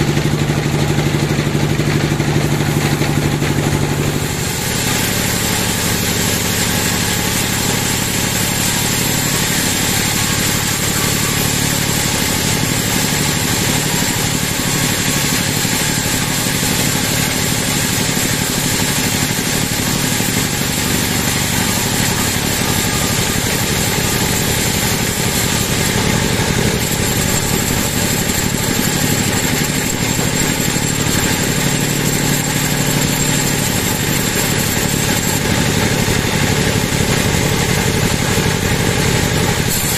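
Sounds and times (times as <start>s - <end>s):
thin high whine: 0.0s - 38.6s
band saw machine drone: 0.0s - 39.9s
saw blade hissing in wood: 2.6s - 35.4s, 39.6s - 39.9s.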